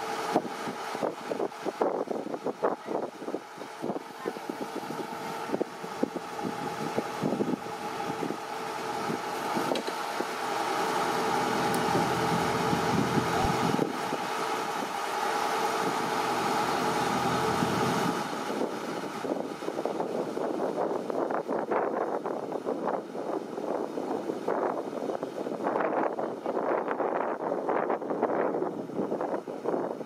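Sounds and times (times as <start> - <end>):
combine harvester diesel engine: 0.0 - 30.0.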